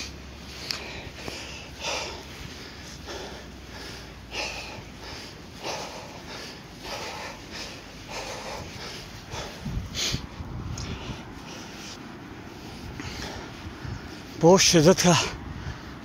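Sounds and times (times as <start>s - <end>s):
person panting: 0.0s - 16.0s.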